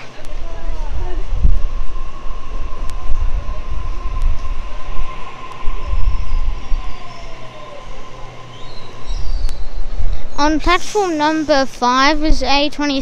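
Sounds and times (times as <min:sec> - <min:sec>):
whine falling in pitch: 0:00.0 - 0:10.7
high electrical whine: 0:00.0 - 0:12.3
low train rumble: 0:00.0 - 0:13.0.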